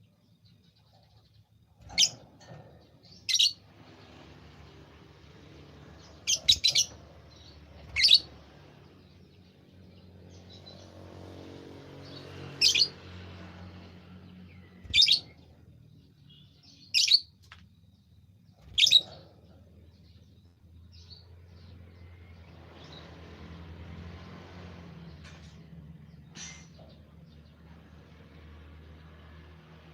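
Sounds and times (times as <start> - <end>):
bird chirping: 0.0 - 28.5.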